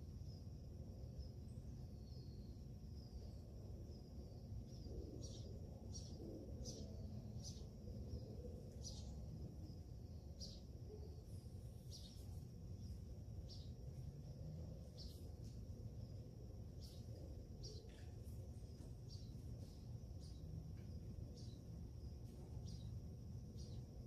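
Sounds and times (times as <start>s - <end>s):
faint low hum: 0.0s - 24.0s
small bird chirping: 1.2s - 24.0s.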